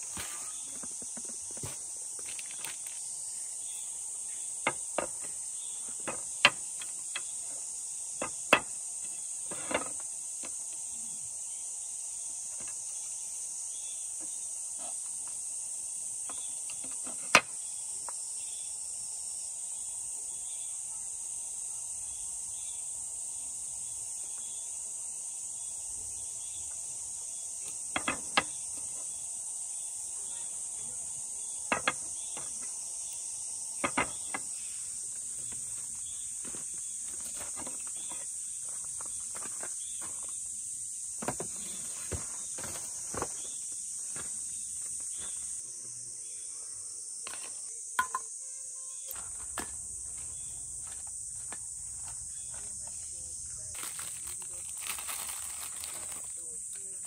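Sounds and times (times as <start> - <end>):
high-pitched insect drone: 0.0 - 57.0.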